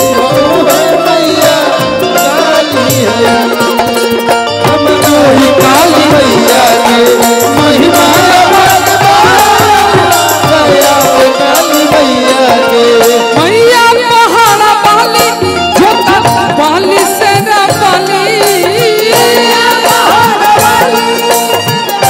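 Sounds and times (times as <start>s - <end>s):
bending melody line: 0.0s - 22.0s
hand drums beating: 0.0s - 22.0s.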